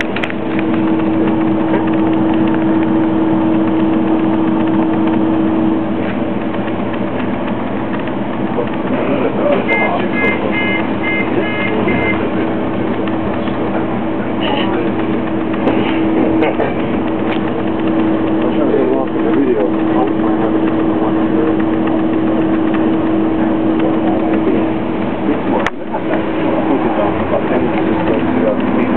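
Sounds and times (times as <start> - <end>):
bus engine droning: 0.0 - 28.9.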